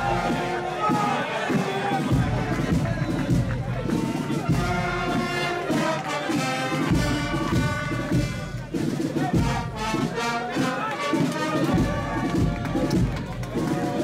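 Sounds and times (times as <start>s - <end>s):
low drum beats: 0.0s - 6.1s, 6.7s - 10.2s, 11.6s - 14.0s
brass band marching music: 0.0s - 14.0s.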